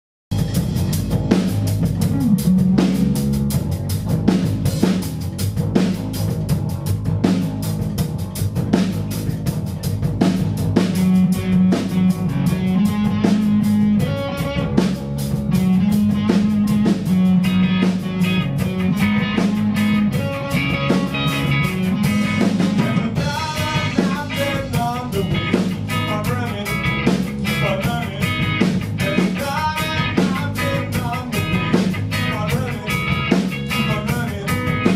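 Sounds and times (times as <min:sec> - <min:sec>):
drum kit beat: 0:00.3 - 0:34.9
rock band playing: 0:00.3 - 0:34.9
electric guitar lines: 0:00.4 - 0:34.9.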